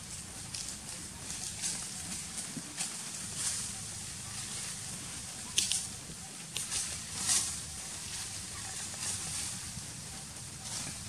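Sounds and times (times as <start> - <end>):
dry leaves rustling and crackling: 0.0 - 11.0
steady low hum: 0.0 - 11.0.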